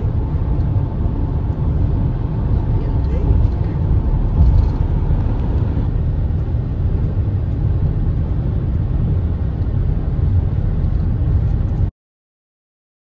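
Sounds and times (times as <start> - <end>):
road and engine rumble in cab: 0.0 - 11.9.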